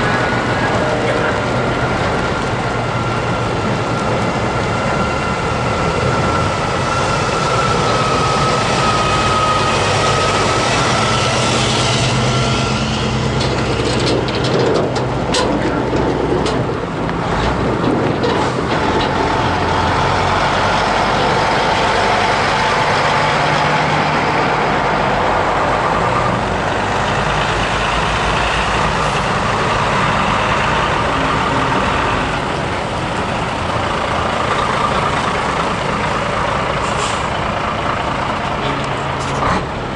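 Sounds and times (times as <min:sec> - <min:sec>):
heavy trucks driving past: 0:00.0 - 0:39.9.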